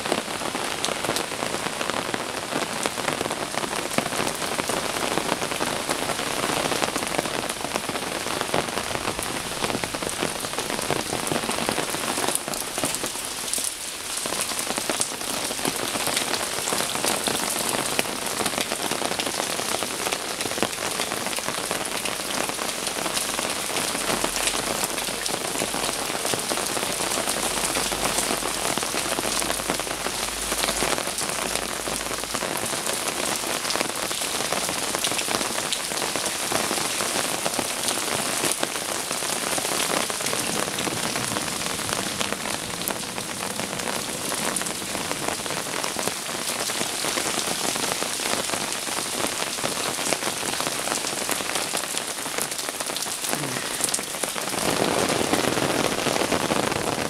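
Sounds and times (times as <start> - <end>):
heavy rain on stone and roofs: 0.0 - 57.0.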